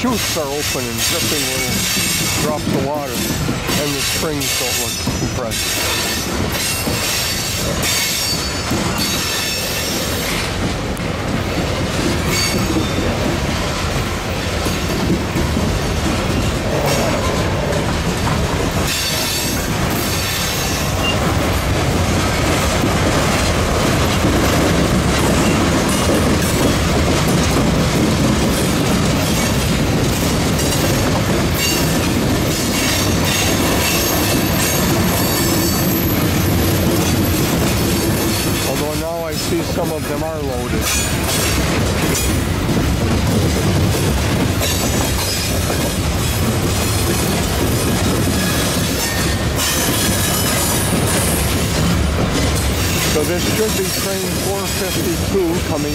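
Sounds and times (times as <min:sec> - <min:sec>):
train wheels clattering over rail joints: 0:00.0 - 0:55.9.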